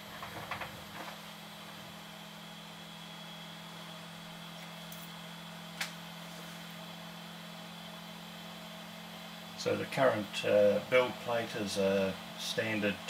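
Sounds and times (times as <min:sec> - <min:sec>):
cooling fans humming: 0:00.0 - 0:13.0.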